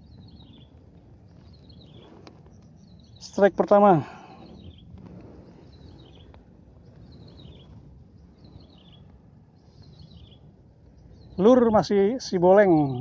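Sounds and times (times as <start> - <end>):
bird chirping: 0.0 - 13.0
wind rumbling on microphone: 0.0 - 13.0.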